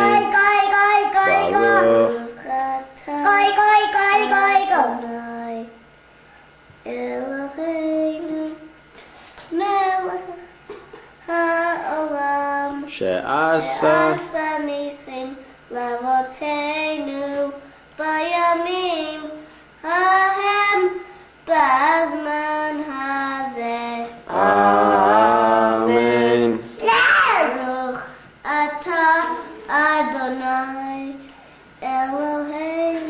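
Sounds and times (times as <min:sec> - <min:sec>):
boy singing: 0:00.0 - 0:05.7, 0:06.9 - 0:08.7, 0:09.5 - 0:10.5, 0:11.3 - 0:12.9, 0:13.5 - 0:26.6, 0:27.4 - 0:31.2, 0:31.8 - 0:33.0.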